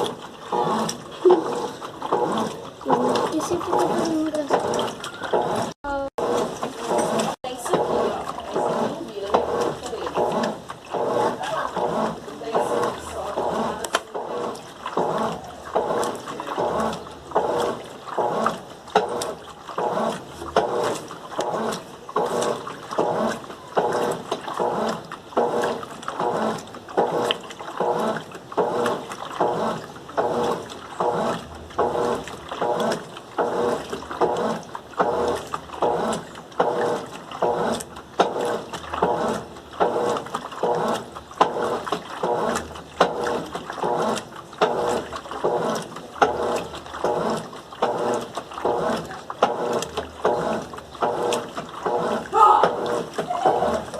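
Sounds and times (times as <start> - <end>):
washing machine sloshing: 0.0 - 53.9.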